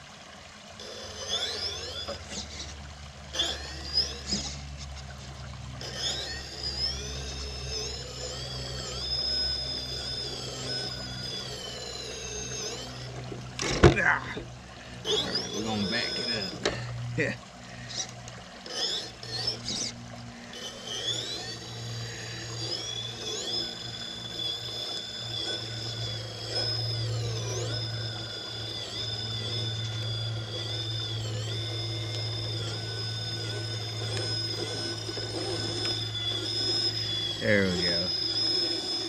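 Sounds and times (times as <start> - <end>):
electric motor whining: 0.0 - 39.0
low hum: 0.0 - 39.0.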